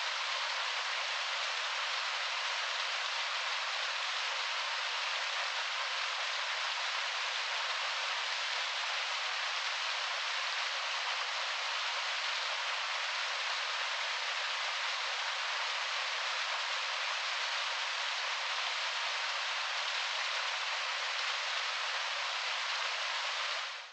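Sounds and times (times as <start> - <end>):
small waterfall over rocks: 0.0 - 23.9.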